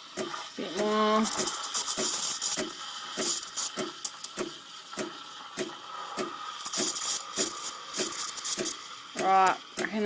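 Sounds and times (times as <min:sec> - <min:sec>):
steam wand frothing milk: 0:00.0 - 0:10.0.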